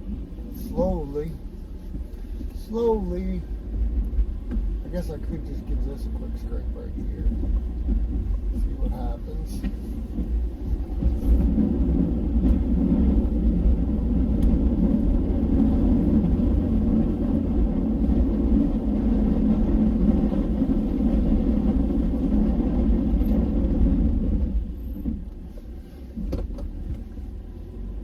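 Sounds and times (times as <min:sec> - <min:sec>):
vehicle engine rumbling: 0:00.0 - 0:28.0
plow blade scraping snow: 0:00.4 - 0:28.0.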